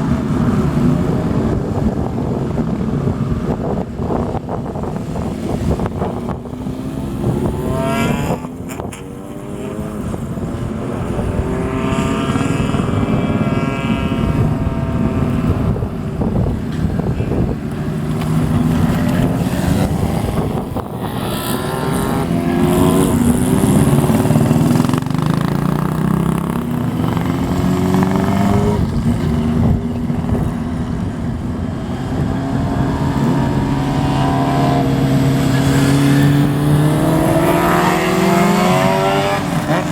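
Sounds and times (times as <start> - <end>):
motorcycles revving and accelerating: 0.0 - 39.9.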